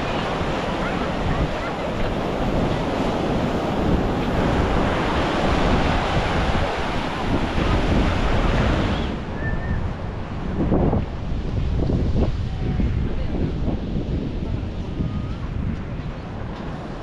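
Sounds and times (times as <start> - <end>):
surf breaking: 0.0 - 17.0
wind buffeting microphone: 0.0 - 17.0.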